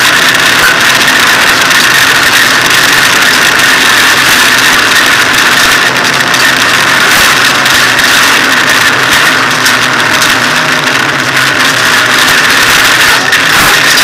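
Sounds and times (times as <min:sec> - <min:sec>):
car engine running hard: 0:00.0 - 0:14.0
road and wind noise: 0:00.0 - 0:14.0.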